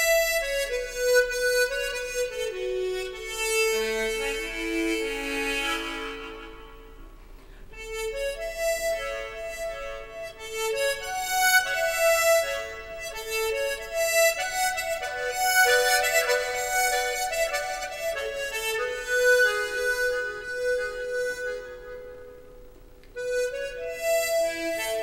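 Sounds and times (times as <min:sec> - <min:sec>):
harmonica melody: 0:00.0 - 0:25.0.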